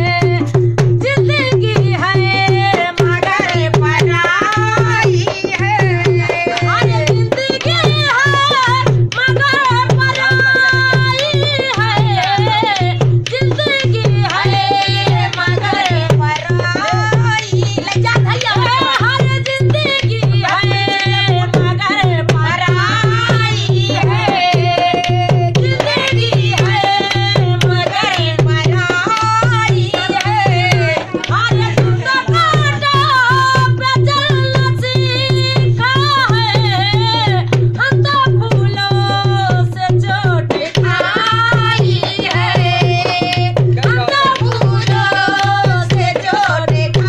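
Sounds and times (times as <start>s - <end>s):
barrel drum rhythm: 0.0s - 47.0s
women singing: 0.0s - 47.0s.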